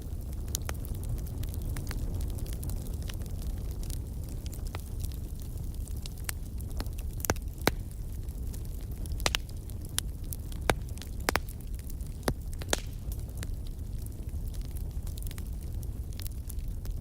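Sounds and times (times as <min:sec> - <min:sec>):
burning wood crackles and pops: 0:00.0 - 0:17.0
campfire burning rumble: 0:00.0 - 0:17.0.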